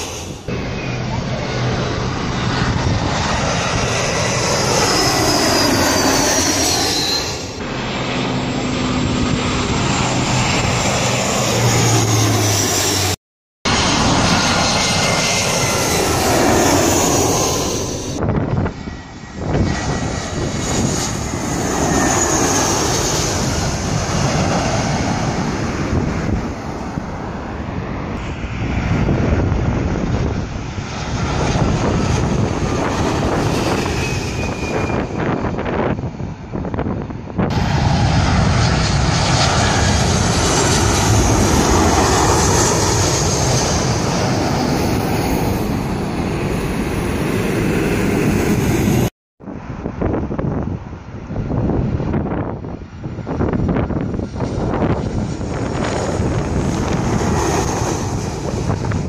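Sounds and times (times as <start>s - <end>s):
high jet whines: 0.0s - 59.0s
jet airliners passing overhead: 0.0s - 59.0s.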